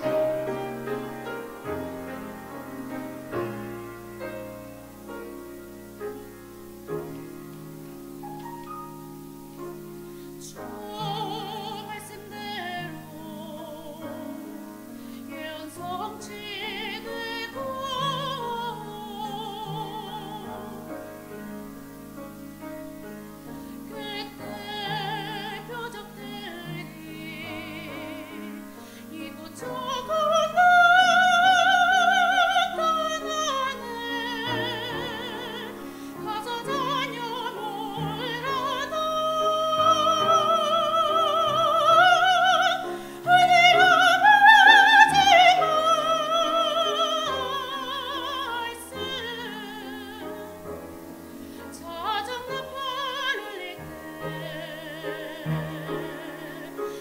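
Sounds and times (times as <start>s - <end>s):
woman singing a hymn: 0.0s - 2.5s, 10.3s - 21.6s, 23.4s - 50.8s, 51.5s - 57.0s
piano accompaniment: 0.0s - 57.0s.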